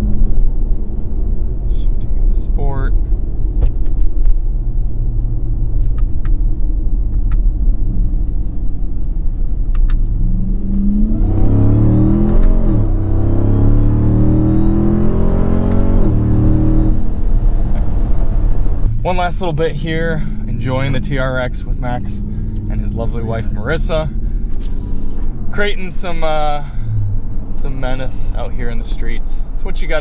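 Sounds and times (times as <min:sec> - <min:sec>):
car engine accelerating: 0:00.0 - 0:30.0
supercharger whine: 0:00.0 - 0:30.0.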